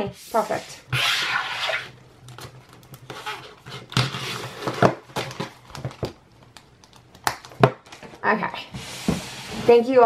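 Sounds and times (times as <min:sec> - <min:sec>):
plastic rustling and crinkling: 0:00.3 - 0:09.9.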